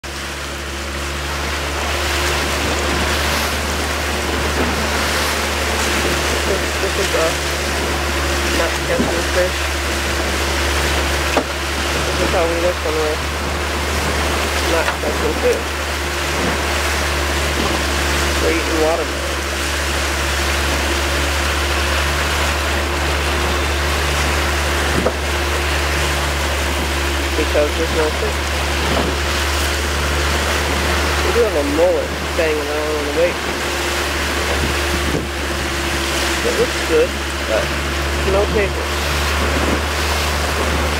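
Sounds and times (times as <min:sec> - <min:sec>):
boat motor droning: 0:00.0 - 0:40.9
water rushing past hull: 0:00.0 - 0:40.9.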